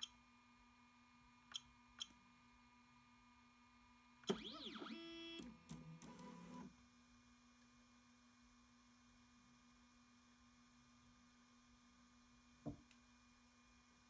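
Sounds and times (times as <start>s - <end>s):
faint machine hum: 0.0s - 14.0s.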